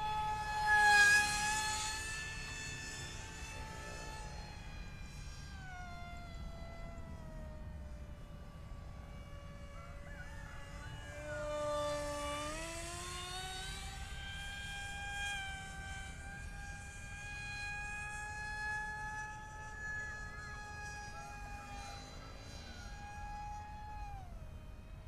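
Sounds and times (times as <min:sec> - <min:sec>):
electric motor and propeller whining: 0:00.0 - 0:25.0.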